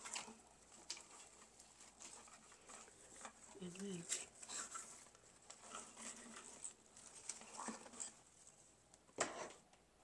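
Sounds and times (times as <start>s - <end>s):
dried garland rustling: 0.0s - 9.0s.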